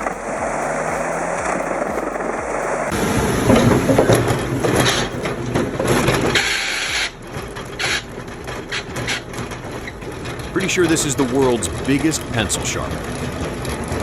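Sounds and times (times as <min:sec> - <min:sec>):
machine crushing wood: 0:00.0 - 0:14.0.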